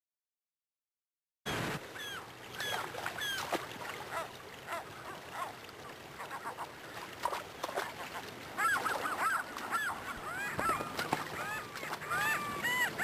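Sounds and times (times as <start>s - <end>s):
gulls calling: 1.5s - 13.0s
river water running through rapids: 1.5s - 13.0s.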